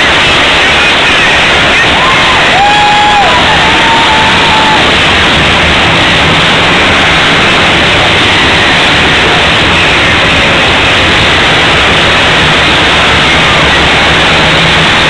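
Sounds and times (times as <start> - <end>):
racing quad engines: 0.0 - 15.0.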